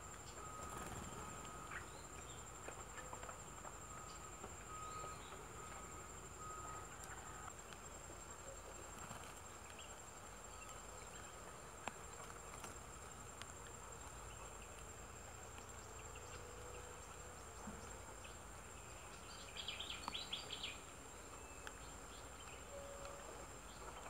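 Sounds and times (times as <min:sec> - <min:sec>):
low steady tone: 0:00.0 - 0:08.9, 0:09.7 - 0:24.0
faint ticks: 0:00.0 - 0:18.4, 0:19.1 - 0:20.7, 0:21.3 - 0:24.0
insect buzzing: 0:00.4 - 0:02.9, 0:04.1 - 0:21.0.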